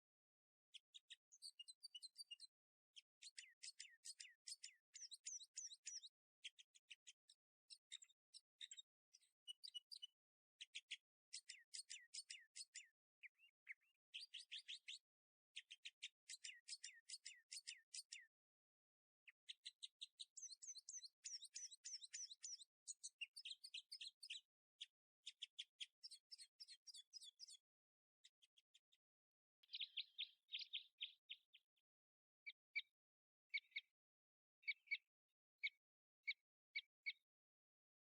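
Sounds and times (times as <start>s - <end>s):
faint songbird chirps and trills: 0.7s - 18.6s, 19.2s - 31.8s, 32.4s - 34.0s, 34.6s - 37.4s.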